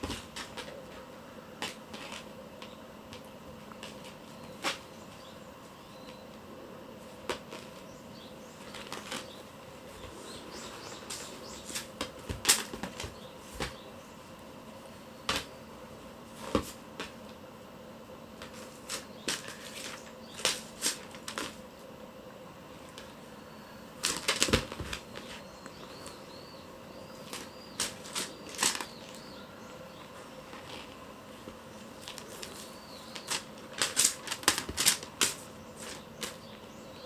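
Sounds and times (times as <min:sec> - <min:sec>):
faint room hum: 0:00.0 - 0:37.0.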